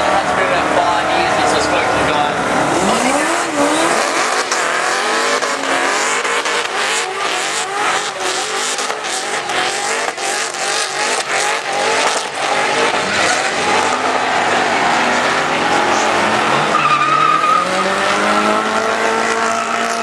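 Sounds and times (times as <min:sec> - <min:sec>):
car engine revving hard: 0:00.0 - 0:20.0
tyres squealing: 0:01.4 - 0:18.6.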